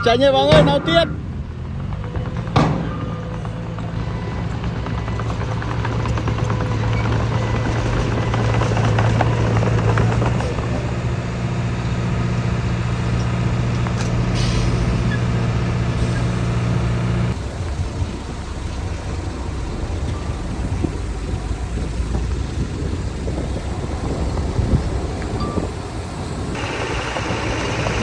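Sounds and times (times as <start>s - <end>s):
heavy diesel engine running: 0.0s - 28.0s
machinery clanking: 0.0s - 28.0s.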